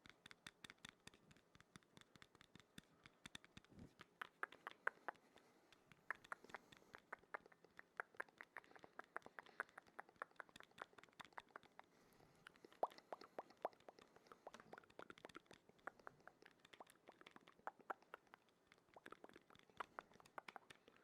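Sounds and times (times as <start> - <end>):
wet mouth clicks and pops: 0.0 - 21.0.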